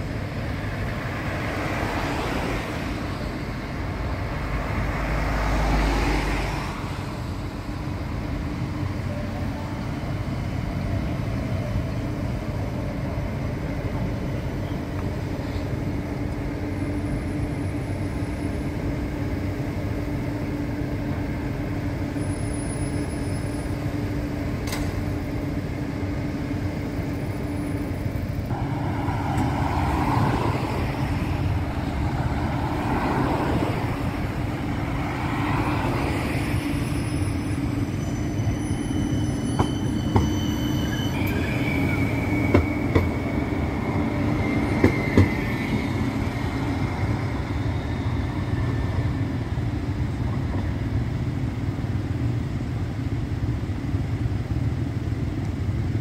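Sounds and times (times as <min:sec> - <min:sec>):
tram rumbling and humming: 0:00.0 - 0:56.0.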